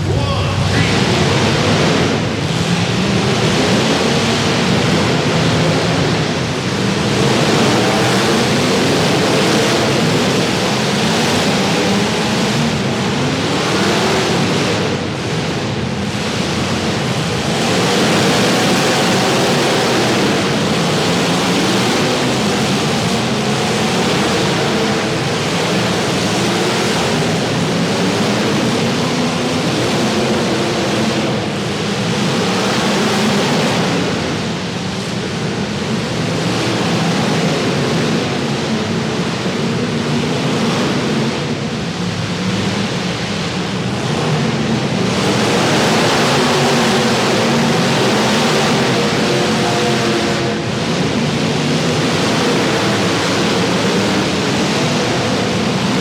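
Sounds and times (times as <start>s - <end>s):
many car engines running unmuffled: 0.0s - 56.0s.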